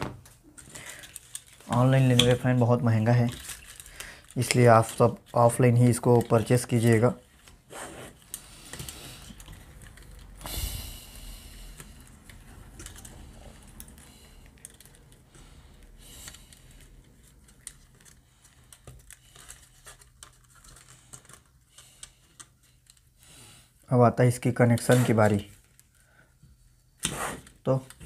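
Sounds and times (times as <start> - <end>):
wire handling clicks and rustles: 0.0 - 23.2, 24.5 - 28.0.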